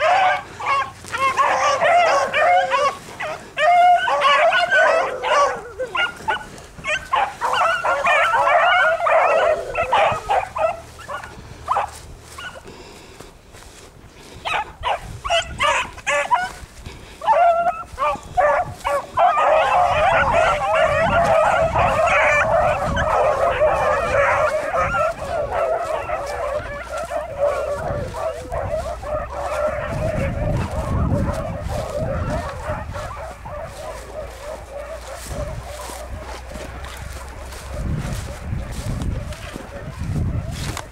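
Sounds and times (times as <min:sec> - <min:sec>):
pack of hounds baying: 0:00.0 - 0:40.9.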